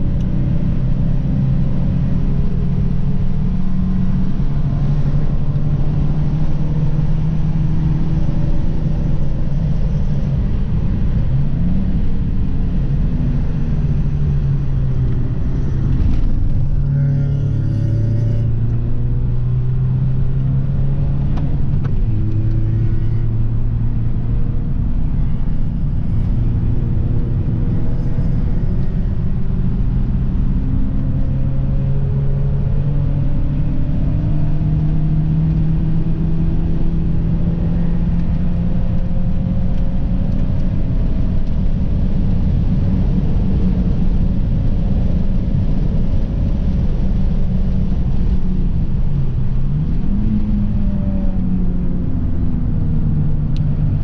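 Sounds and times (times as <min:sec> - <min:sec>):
car engine under hard throttle: 0:00.0 - 0:54.0.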